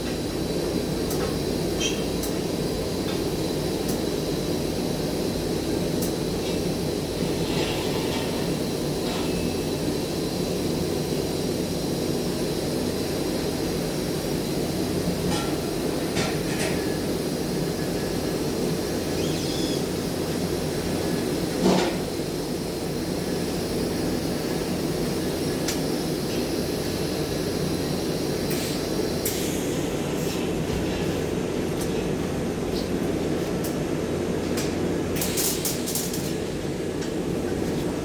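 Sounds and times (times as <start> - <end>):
low mechanical drone: 0.0 - 31.9.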